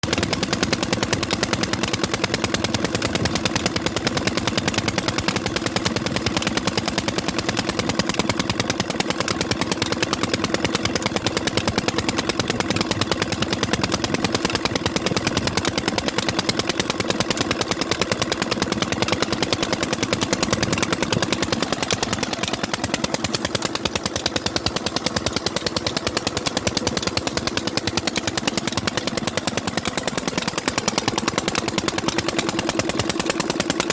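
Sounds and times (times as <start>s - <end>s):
old engine running: 0.0s - 33.9s.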